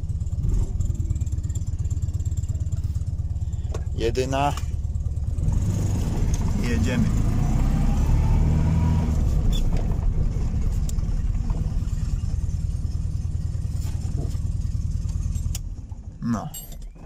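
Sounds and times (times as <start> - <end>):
small car engine running: 0.0 - 16.2.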